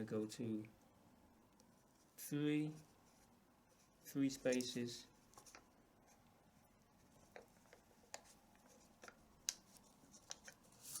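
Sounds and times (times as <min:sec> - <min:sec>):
light rubbing of strap: 0:01.6 - 0:11.0.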